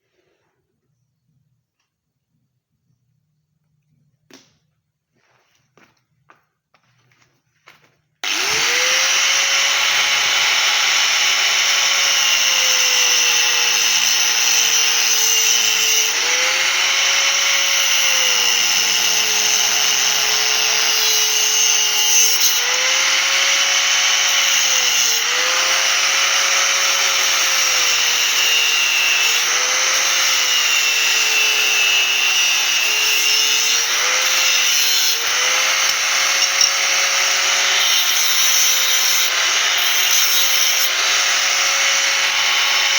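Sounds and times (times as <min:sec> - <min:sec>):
power tool cutting steel pipe: 0:08.2 - 0:42.9.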